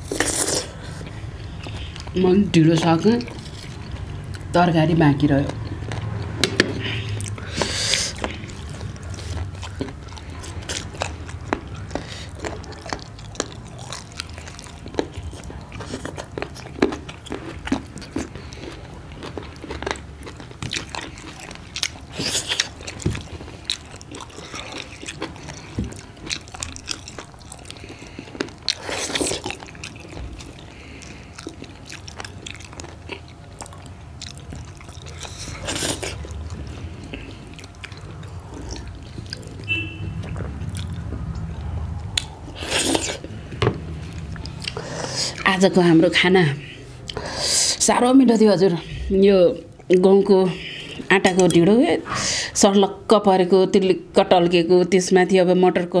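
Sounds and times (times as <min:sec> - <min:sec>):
chewing and mouth smacking: 0:00.0 - 0:04.5, 0:05.3 - 0:45.8.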